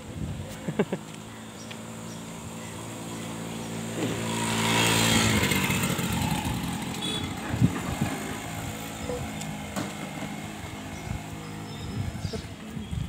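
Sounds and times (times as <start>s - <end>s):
motorcycle engine passing by: 1.6s - 13.0s.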